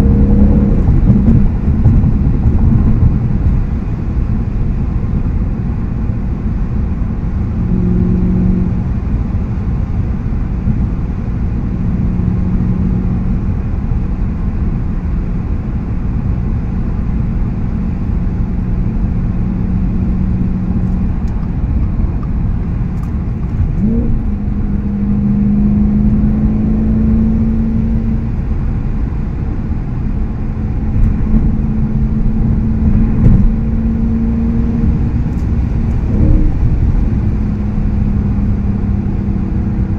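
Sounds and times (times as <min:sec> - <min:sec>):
exhaust drone and engine revving: 0:00.0 - 0:39.9
road rumble: 0:00.0 - 0:39.9.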